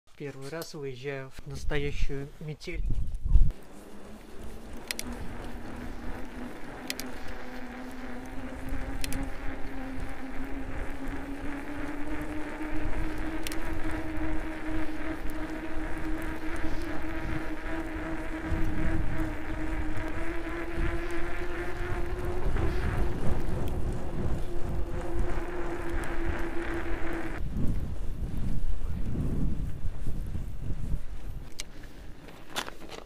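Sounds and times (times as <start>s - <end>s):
wind rumble on microphone: 2.7s - 32.5s
bike tyres humming on snow: 2.9s - 33.0s.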